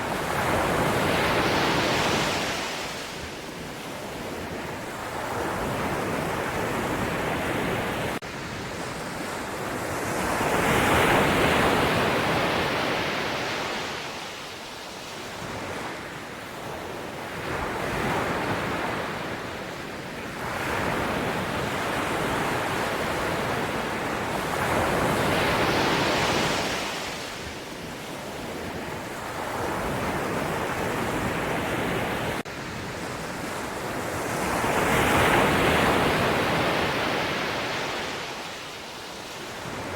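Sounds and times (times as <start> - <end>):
ocean waves breaking: 0.0 - 14.4, 20.4 - 39.9.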